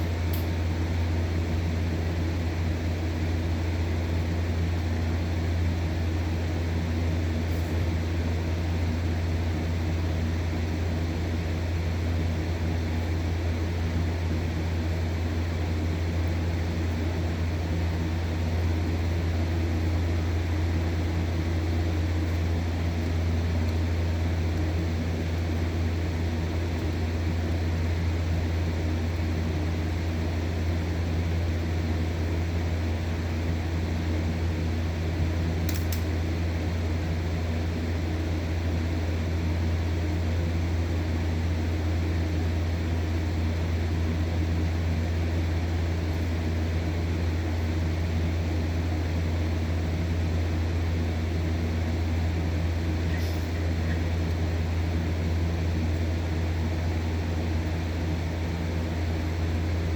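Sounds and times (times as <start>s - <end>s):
window fan humming: 0.0s - 59.9s.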